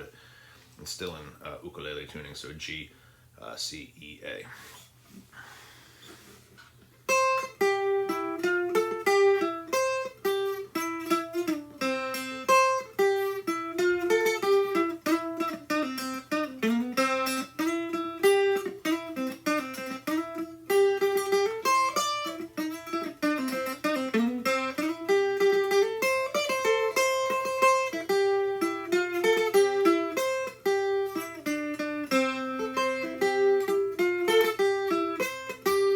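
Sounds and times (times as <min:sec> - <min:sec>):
tiple picked and strummed: 0:06.6 - 0:35.9.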